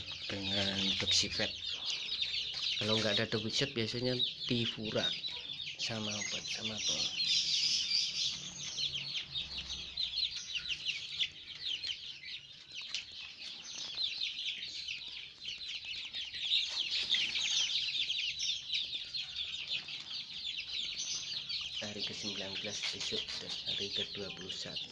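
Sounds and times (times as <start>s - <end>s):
chicks peeping: 0.0s - 24.9s.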